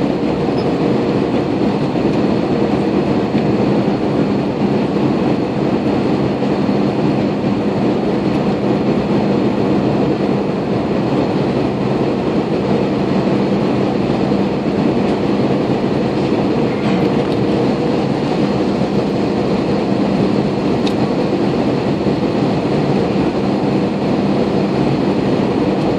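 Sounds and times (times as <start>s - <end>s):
jet engine and airflow rush: 0.0s - 25.9s.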